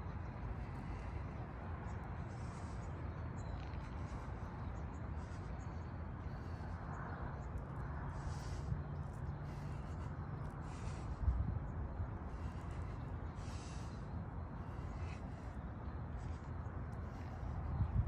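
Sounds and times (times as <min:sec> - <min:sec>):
steady background noise: 0:00.0 - 0:18.0
man breathing hard: 0:00.3 - 0:18.0.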